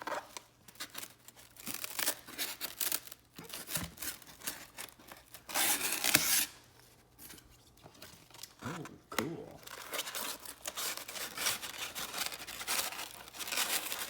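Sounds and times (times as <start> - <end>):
packaging tearing and crinkling: 0.0 - 6.6, 8.3 - 14.0.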